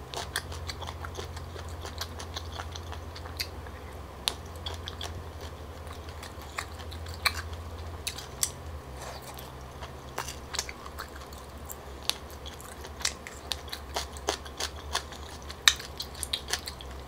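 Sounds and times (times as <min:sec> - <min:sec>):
close chewing with mouth clicks: 0:00.0 - 0:17.0.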